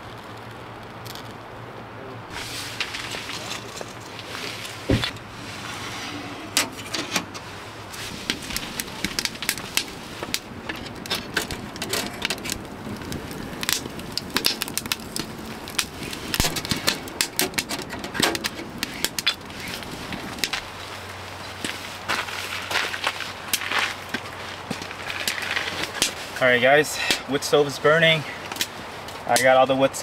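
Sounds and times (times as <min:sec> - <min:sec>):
firewood crackling and popping: 0:00.0 - 0:30.0.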